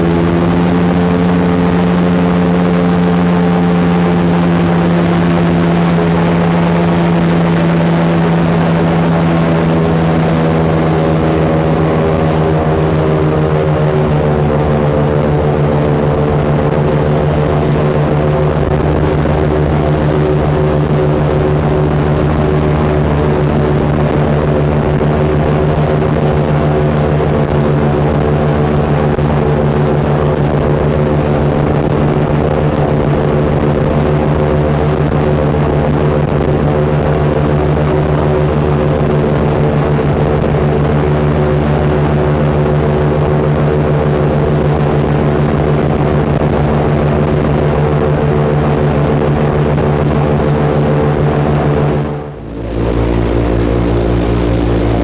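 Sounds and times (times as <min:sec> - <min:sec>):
airboat engine and propeller drone: 0:00.0 - 0:55.0.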